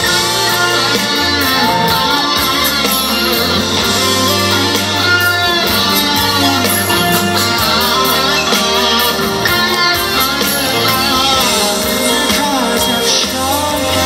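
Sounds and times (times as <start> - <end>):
bass guitar: 0.0 - 14.0
drums: 0.0 - 14.0
electric guitar lead with bent notes: 0.0 - 14.0.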